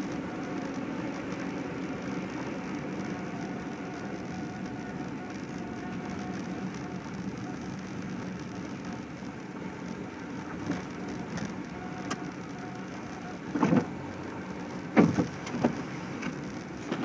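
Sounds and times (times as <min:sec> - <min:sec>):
car engine and road hum: 0:00.0 - 0:17.0.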